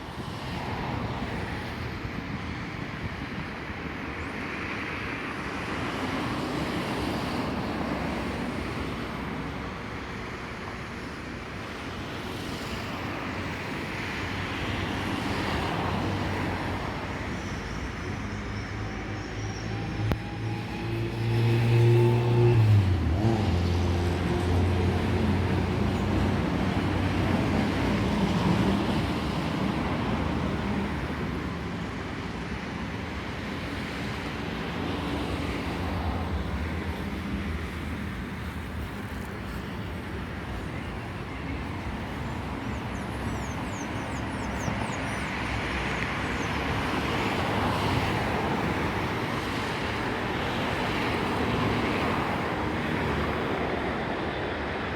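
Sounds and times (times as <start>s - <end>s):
road traffic noise: 0.0s - 54.9s.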